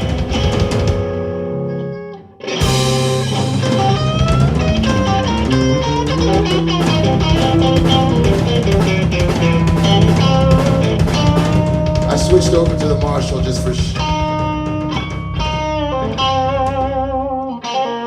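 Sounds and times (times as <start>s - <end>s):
drums: 0.0s - 1.8s, 2.4s - 18.0s
bass guitar: 0.0s - 18.0s
electric guitar picking: 0.0s - 18.0s.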